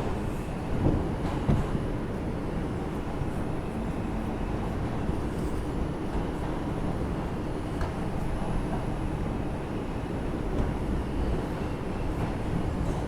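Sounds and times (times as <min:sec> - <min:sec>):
subway car rumble: 0:00.0 - 0:13.0.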